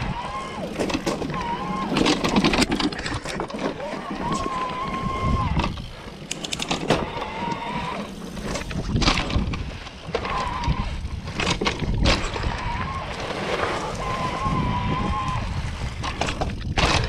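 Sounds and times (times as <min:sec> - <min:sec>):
bike clattering over bumps: 0:00.0 - 0:17.0
e-bike motor whining: 0:00.0 - 0:17.0
tyres rumbling on dirt: 0:00.0 - 0:17.0.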